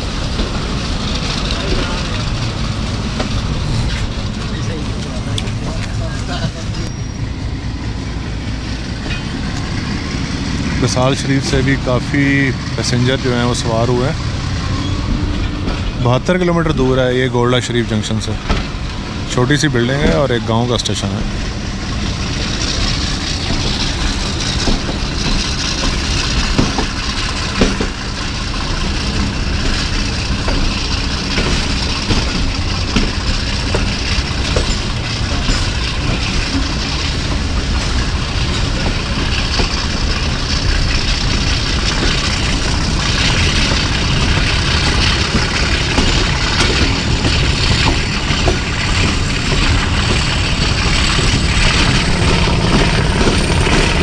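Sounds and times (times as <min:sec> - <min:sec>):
diesel locomotive engine chugging: 0:00.0 - 0:54.0
train rumbling and rattling: 0:00.0 - 0:54.0.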